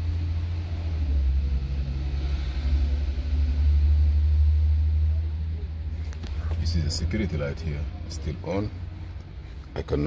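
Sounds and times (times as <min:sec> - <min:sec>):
motor low rumble: 0:00.0 - 0:10.0.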